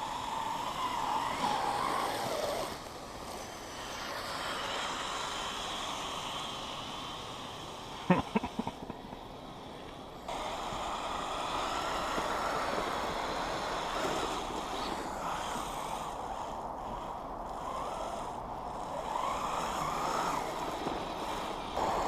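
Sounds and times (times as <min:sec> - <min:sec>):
toy snow machine motor whine: 0:00.0 - 0:22.0.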